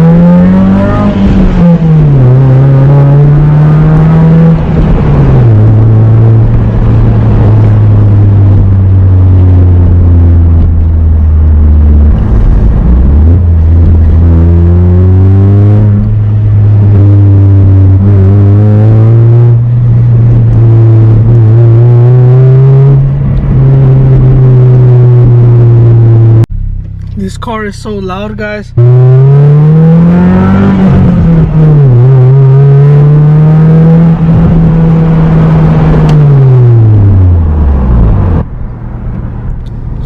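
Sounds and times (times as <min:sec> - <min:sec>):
car engine exhaust drone: 0:00.0 - 0:40.0.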